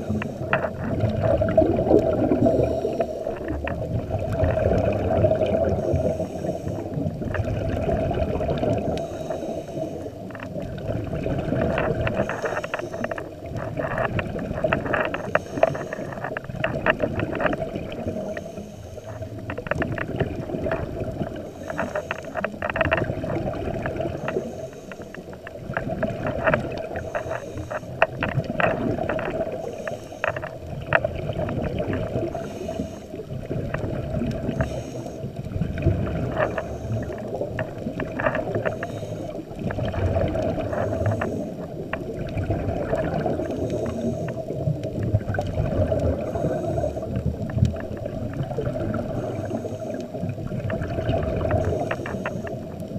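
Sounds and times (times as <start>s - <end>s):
exhaled air bubbles: 0.0s - 52.9s
underwater regulator breathing: 0.0s - 52.9s.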